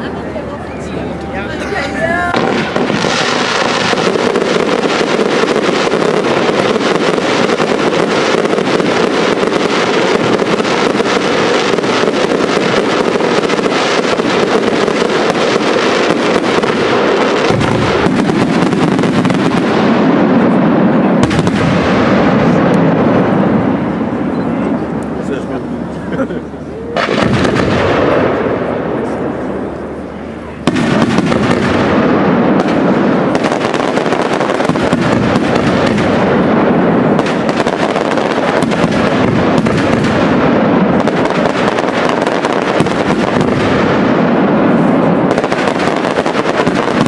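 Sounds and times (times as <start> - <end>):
fireworks crackling: 0.0 - 47.0
sharp firework bang: 2.3 - 23.7, 27.0 - 28.7, 30.6 - 47.0.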